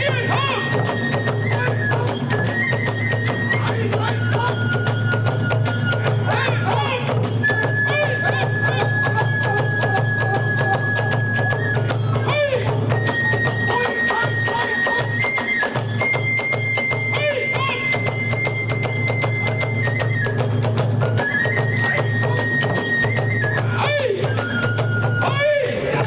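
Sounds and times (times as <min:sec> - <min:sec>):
bamboo flute high notes: 0:00.0 - 0:26.0
fast drum beating: 0:00.0 - 0:26.0.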